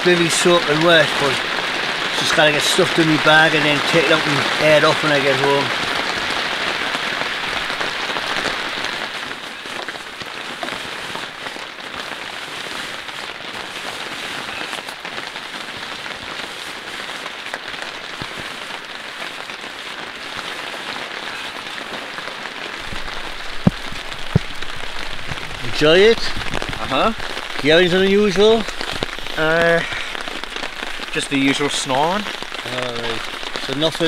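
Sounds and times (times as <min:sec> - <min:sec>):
heavy rain on a tarp: 0:00.0 - 0:34.0.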